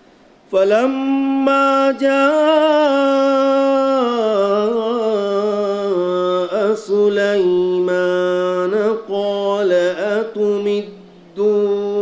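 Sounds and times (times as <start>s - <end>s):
man reciting melodically: 0.5s - 12.0s.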